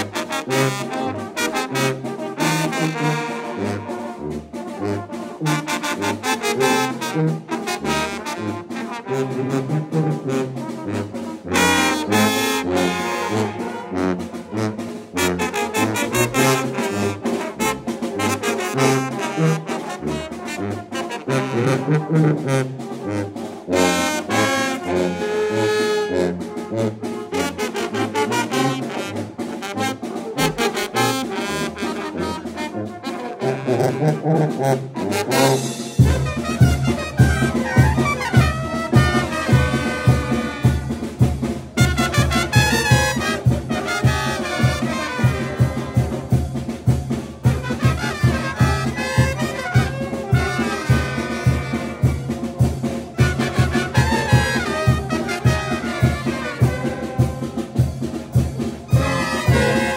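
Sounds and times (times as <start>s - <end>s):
brass band playing: 0.0s - 59.9s
snare drum: 0.0s - 59.9s.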